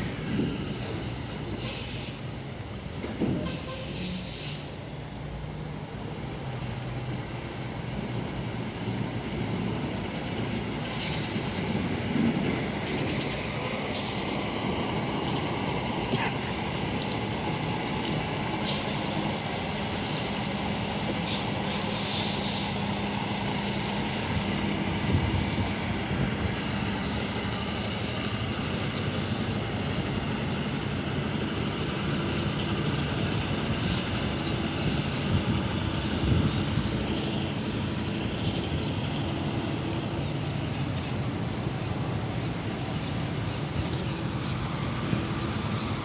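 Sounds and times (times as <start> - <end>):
continuous rushing noise: 0.0 - 46.0
truck diesel engine running: 0.0 - 46.0.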